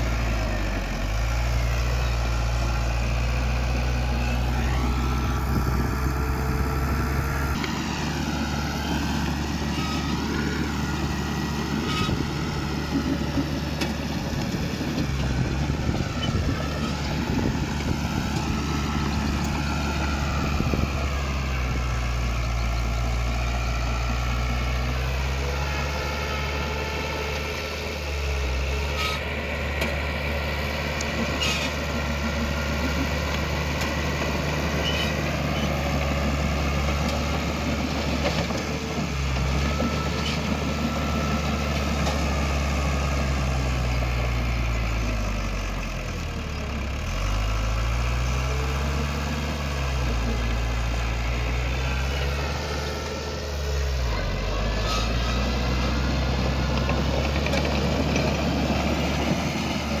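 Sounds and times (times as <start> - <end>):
heavy diesel machine engine: 0.0 - 60.0.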